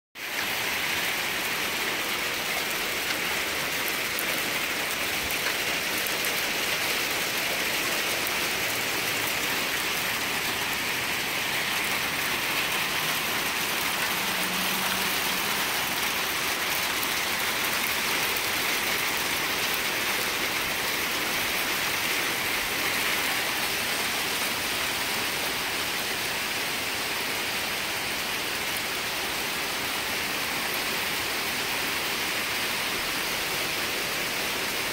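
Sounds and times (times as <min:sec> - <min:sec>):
hail falling: 0:00.2 - 0:28.9.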